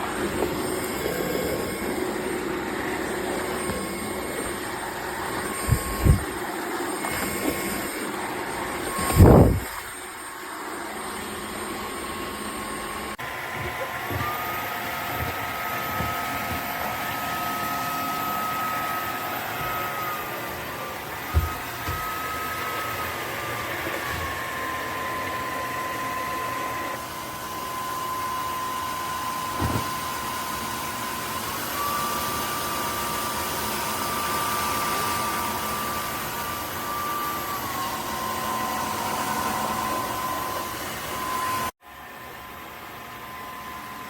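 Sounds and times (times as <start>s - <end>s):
vacuum mop motor whine: 0.0s - 44.0s.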